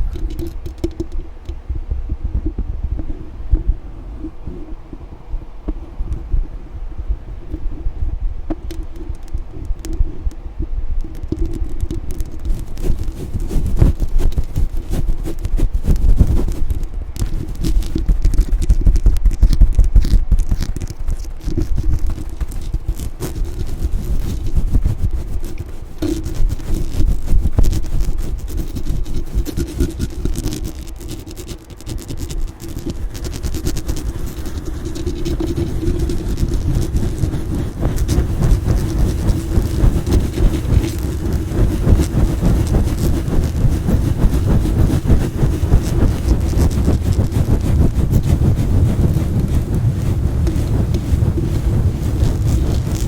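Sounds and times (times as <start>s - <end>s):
brush scraping microphone: 0.0s - 1.3s, 11.0s - 53.0s.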